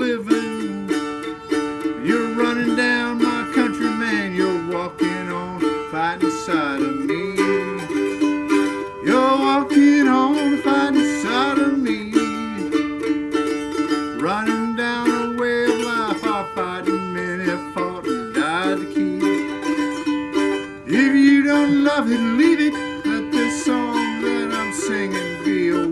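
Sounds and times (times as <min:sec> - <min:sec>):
country song on plucked strings: 0:00.0 - 0:25.9.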